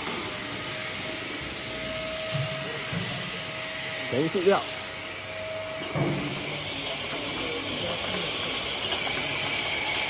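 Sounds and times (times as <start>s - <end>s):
machine hissing: 0.0s - 10.0s
steady high tone: 0.0s - 10.0s.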